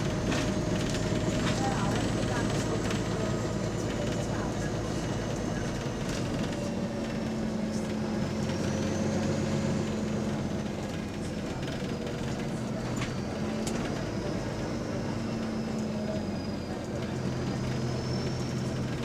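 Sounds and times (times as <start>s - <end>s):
bus engine hum: 0.0s - 19.0s.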